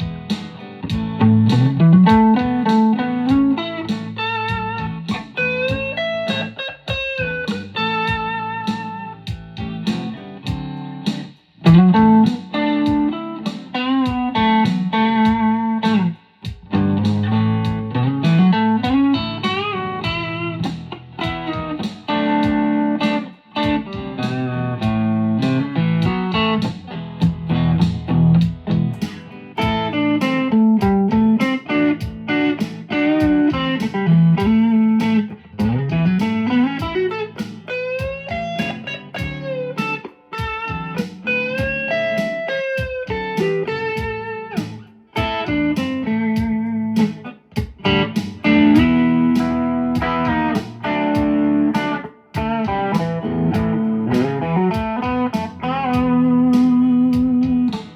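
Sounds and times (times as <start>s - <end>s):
loud electric guitar through amp: 0.0s - 10.6s, 11.6s - 57.9s.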